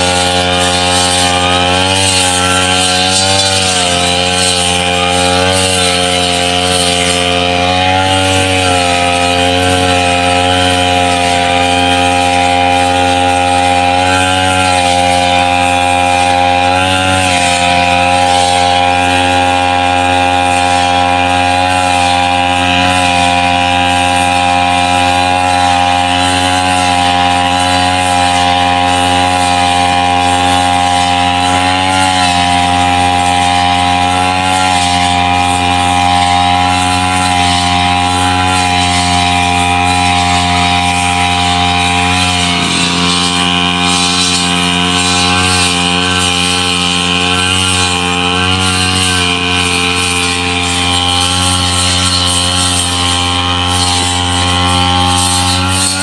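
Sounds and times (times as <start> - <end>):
brush cutter engine cutting grass: 0.0 - 56.0.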